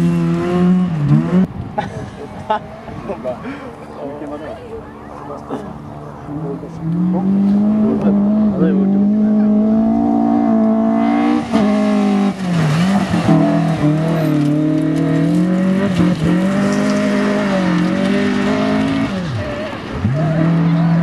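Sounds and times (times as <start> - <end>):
rally car engine at high revs: 0.0 - 3.6, 4.9 - 21.0.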